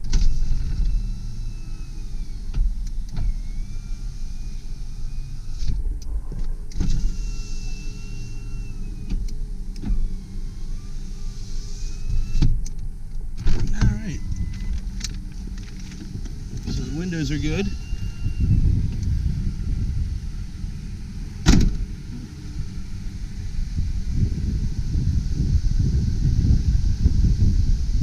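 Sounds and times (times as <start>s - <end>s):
low engine rumble: 0.0s - 28.0s
power window motor whining: 0.0s - 28.0s.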